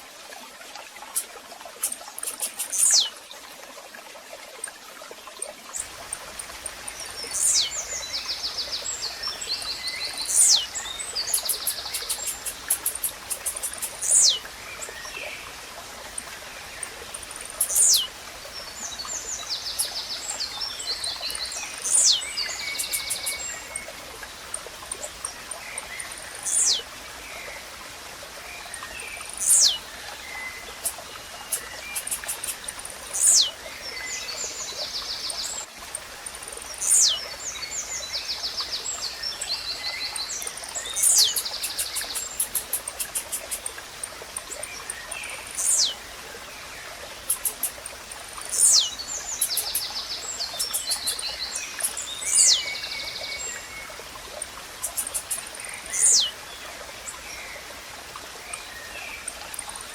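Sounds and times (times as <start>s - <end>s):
running water hiss: 0.0s - 59.9s
small birds trilling and chipping: 1.0s - 3.5s, 5.4s - 59.9s.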